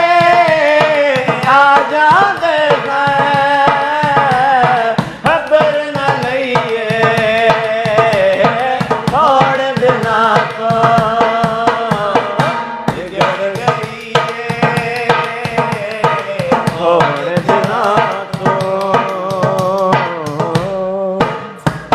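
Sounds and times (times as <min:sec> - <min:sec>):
hand drum beat: 0:00.0 - 0:21.9.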